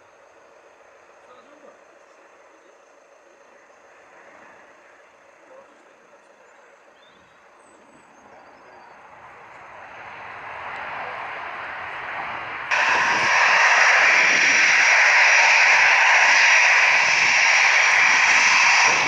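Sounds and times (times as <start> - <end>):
airliner engines rushing: 0.0 - 19.0.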